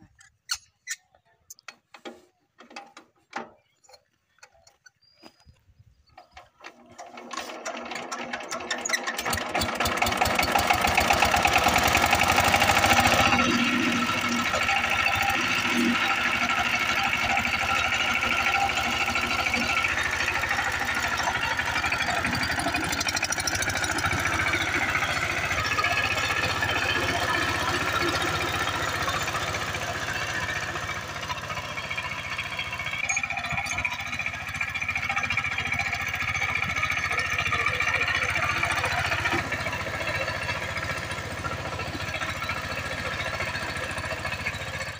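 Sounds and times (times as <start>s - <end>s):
rotary tiller churning soil: 6.1s - 44.9s
diesel engine fast knocking: 8.7s - 44.9s.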